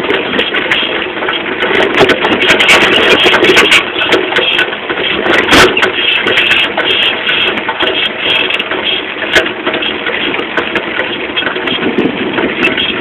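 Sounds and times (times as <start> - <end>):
chassis knocks and rattles: 0.0 - 13.0
moped engine: 0.0 - 13.0.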